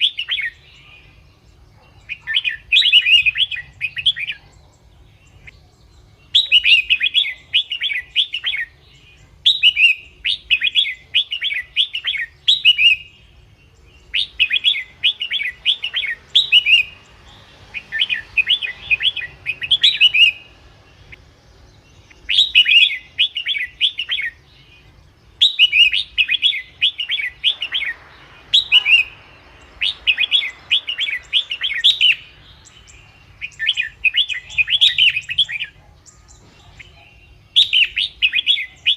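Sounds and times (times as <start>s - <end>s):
bird chirping song: 0.0s - 38.9s.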